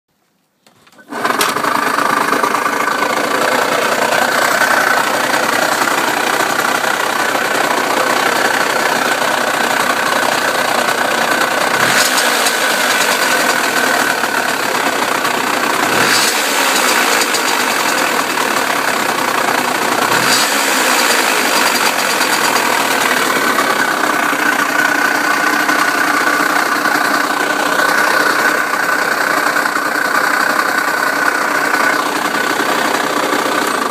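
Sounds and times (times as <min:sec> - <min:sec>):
two-stroke motorcycle engine running: 0:01.1 - 0:33.9.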